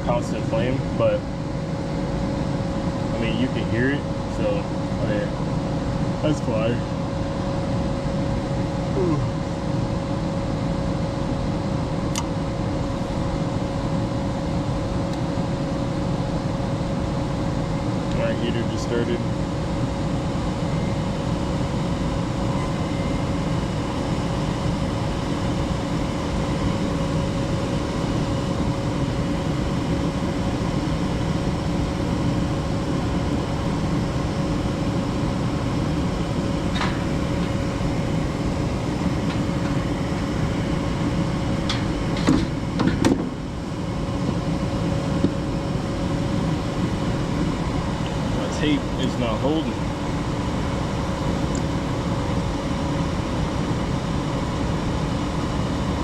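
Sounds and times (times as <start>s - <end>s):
furnace hum: 0.0s - 56.0s
gas furnace rushing noise: 0.0s - 56.0s.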